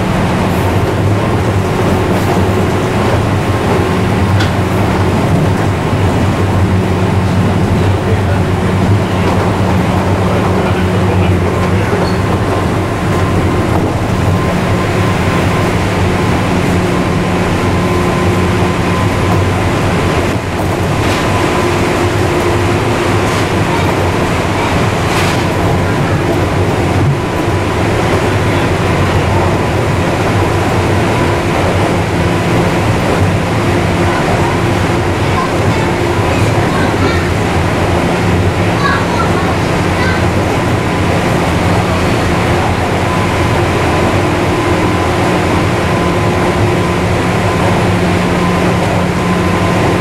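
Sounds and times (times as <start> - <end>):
electric train running hum: 0.0 - 50.0
rail noise: 0.0 - 50.0.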